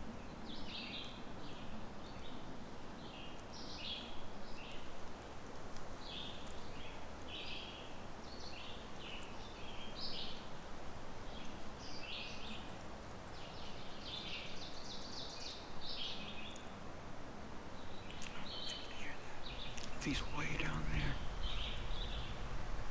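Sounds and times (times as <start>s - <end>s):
songbirds calling: 0.0s - 22.9s
steady background hiss: 0.0s - 22.9s.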